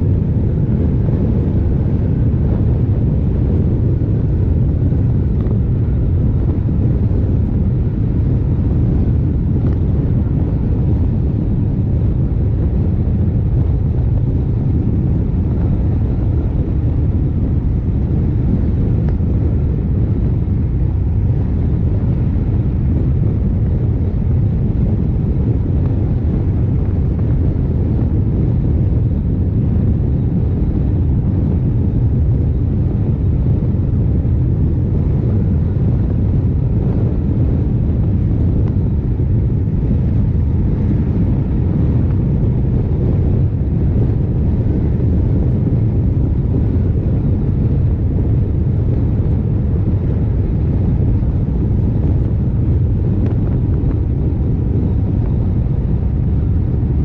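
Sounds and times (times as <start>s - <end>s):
wind rush over microphone: 0.0s - 57.0s.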